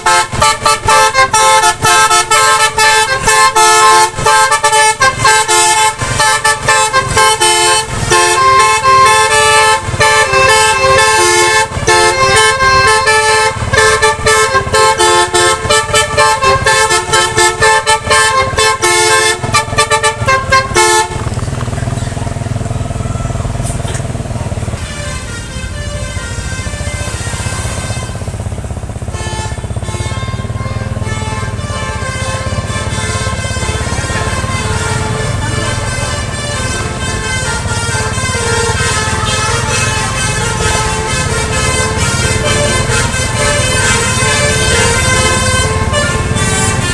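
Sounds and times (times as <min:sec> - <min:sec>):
bus engine: 0:00.0 - 0:46.9
musical air horn melody: 0:00.0 - 0:46.9
road noise: 0:00.0 - 0:46.9.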